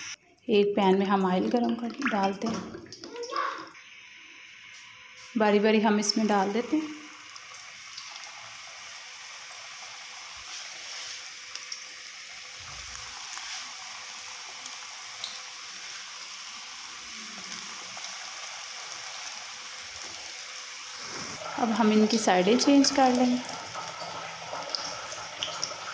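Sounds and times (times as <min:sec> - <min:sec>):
food deep-frying in oil: 0:00.9 - 0:25.9.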